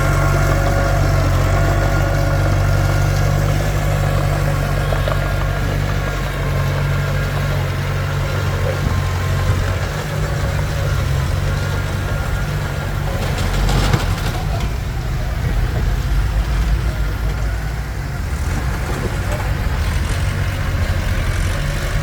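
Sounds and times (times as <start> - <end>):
bulldozer diesel engine droning: 0.0 - 22.0
clattering noise: 0.0 - 22.0.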